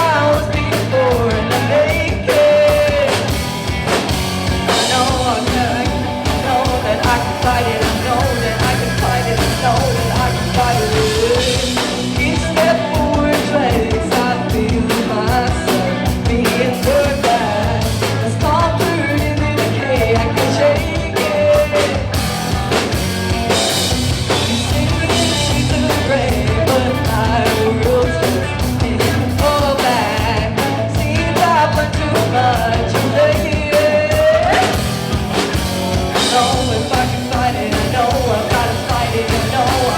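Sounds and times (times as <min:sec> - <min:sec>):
person singing: 0:00.0 - 0:03.4, 0:04.5 - 0:22.3, 0:23.7 - 0:39.9
live rock band playing: 0:00.0 - 0:39.9.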